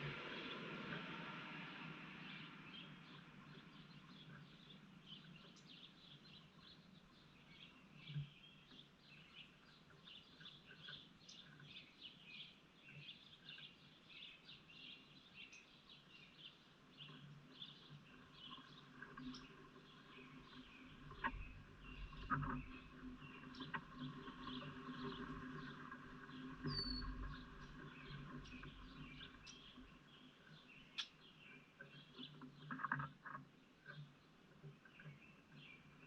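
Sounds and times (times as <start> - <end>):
birds chirping: 2.2 - 36.0.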